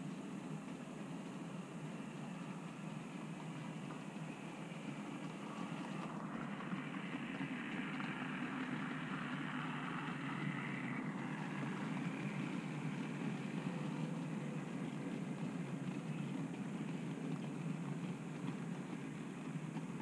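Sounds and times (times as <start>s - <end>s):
model train wheels rumbling: 0.0s - 20.0s.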